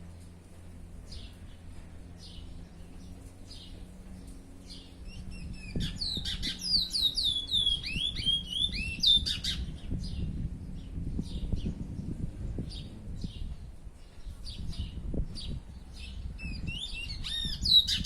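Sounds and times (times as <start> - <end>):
seed-finch singing: 2.2 - 18.0.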